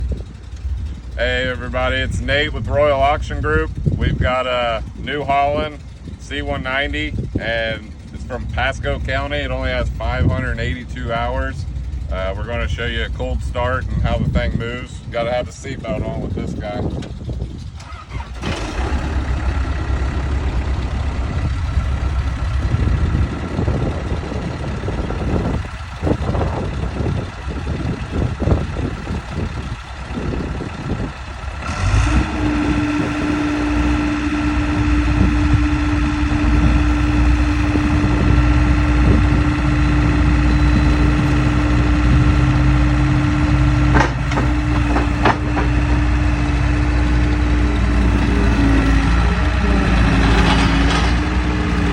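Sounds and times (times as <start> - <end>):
diesel engine running: 0.0 - 51.9
steady engine whine: 0.0 - 51.9.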